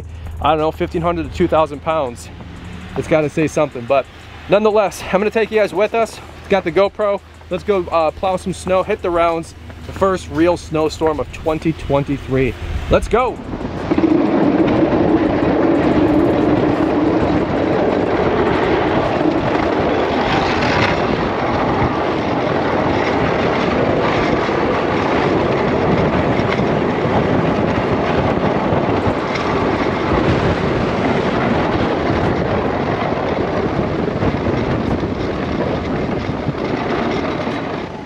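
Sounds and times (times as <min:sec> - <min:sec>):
plow truck pushing slush: 0:00.0 - 0:38.0
wind on camera: 0:00.0 - 0:38.0.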